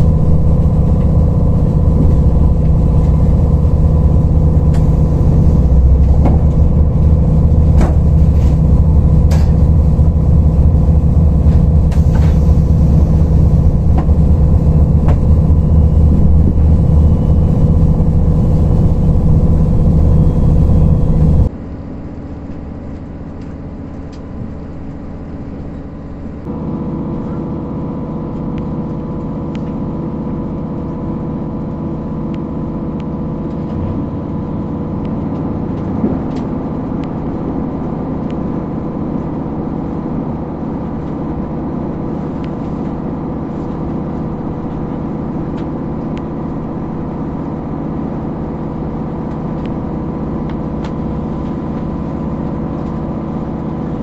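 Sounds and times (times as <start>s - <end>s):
train engine drone: 0.0s - 54.0s
train rolling noise: 0.0s - 54.0s.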